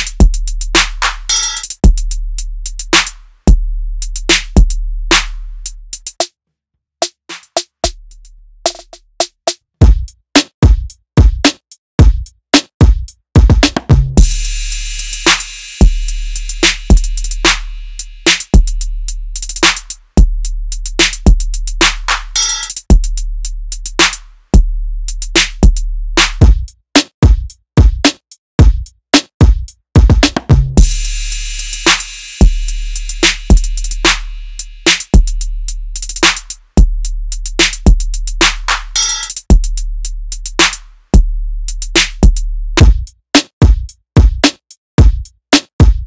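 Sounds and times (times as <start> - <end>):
drum machine beat: 0.0 - 6.3, 7.0 - 46.0
ticking hi-hats: 0.0 - 6.3, 7.0 - 45.4.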